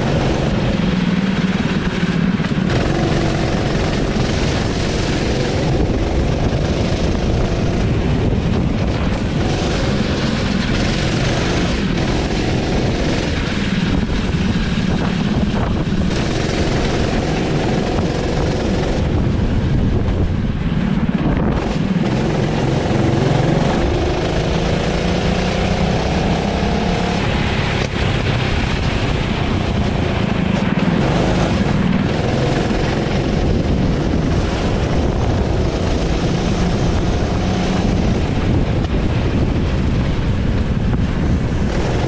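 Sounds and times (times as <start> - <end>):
go-kart engine revving: 0.0 - 42.0.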